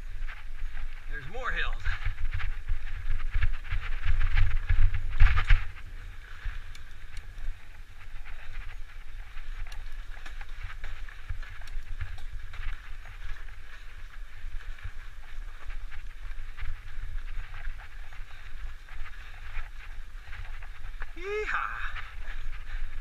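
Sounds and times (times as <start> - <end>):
bike rattling over bumps: 0.0 - 21.2, 21.8 - 23.0
bike tyres on dirt: 0.0 - 23.0
wind on microphone: 0.0 - 23.0.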